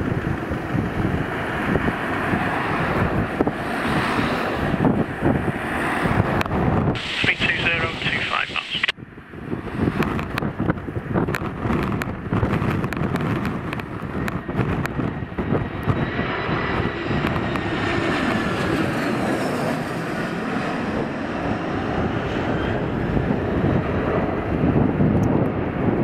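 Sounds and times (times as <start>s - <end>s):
jet airliner engine roar: 0.0s - 26.0s
wind buffeting microphone: 0.0s - 26.0s.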